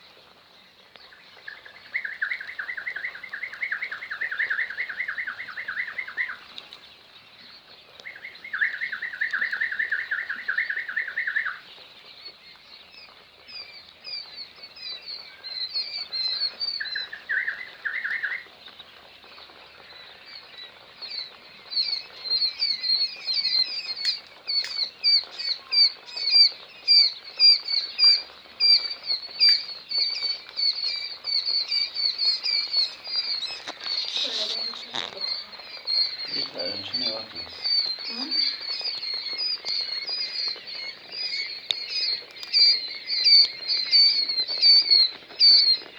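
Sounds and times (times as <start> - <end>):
quail chicks peeping: 0.0 - 45.9.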